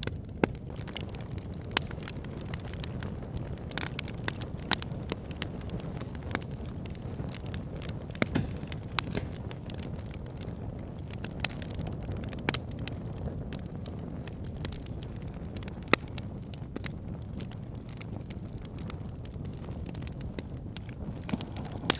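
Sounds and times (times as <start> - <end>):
fire crackling and popping: 0.0 - 21.9
fire flames rushing: 0.1 - 21.9.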